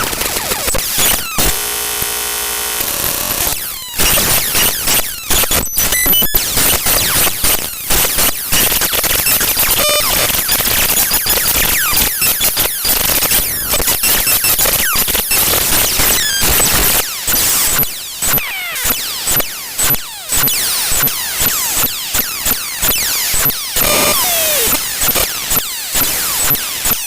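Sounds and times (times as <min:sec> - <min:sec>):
harsh digital noise with squeaks: 0:00.0 - 0:01.6, 0:02.8 - 0:27.0.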